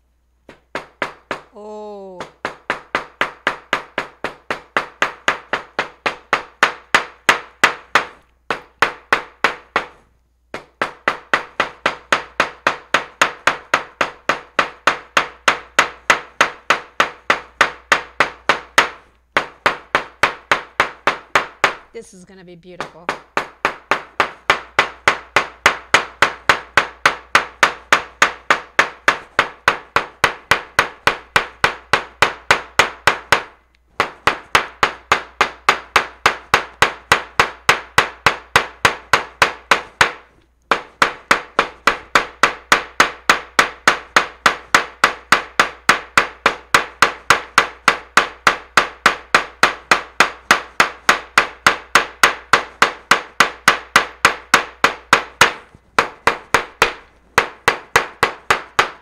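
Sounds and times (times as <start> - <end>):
small hammer pounding on paper: 0.4 - 22.1, 22.7 - 59.0.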